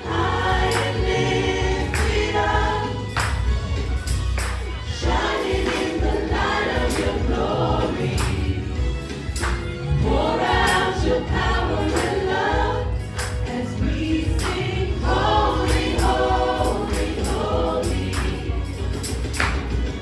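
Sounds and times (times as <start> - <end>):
band playing: 0.0 - 17.8
choir singing gospel song: 0.0 - 20.0
percussion hits: 0.0 - 20.0.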